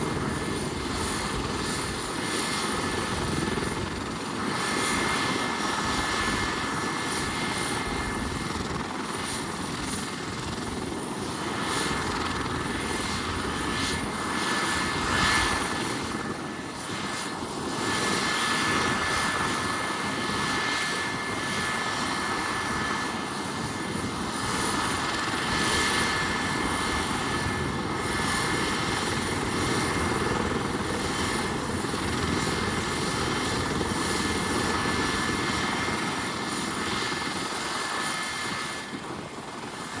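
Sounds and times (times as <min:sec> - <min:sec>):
helicopter turbine and rotor: 0:00.0 - 0:40.0.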